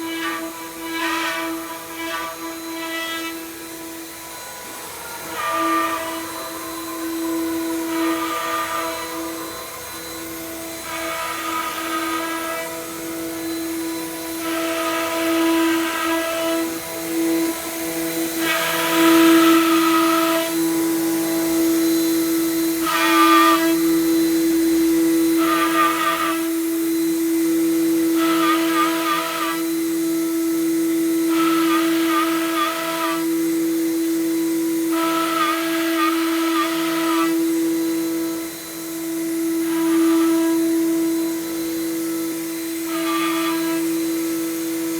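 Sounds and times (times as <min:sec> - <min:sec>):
router bit cutting wood: 0:00.0 - 0:44.9
router spindle high whine: 0:00.0 - 0:44.9.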